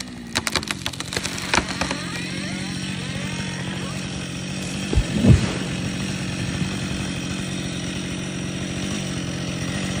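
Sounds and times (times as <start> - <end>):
chainsaw engine idling: 0.0 - 10.0.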